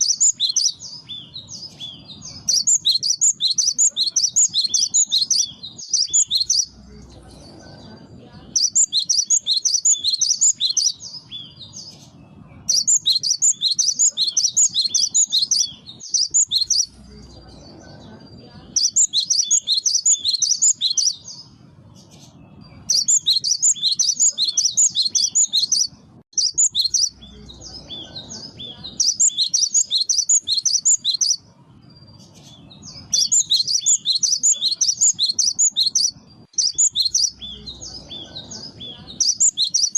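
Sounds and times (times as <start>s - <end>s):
bird singing sharp high notes: 0.0s - 6.8s, 8.5s - 17.0s, 18.7s - 31.4s, 32.1s - 38.3s.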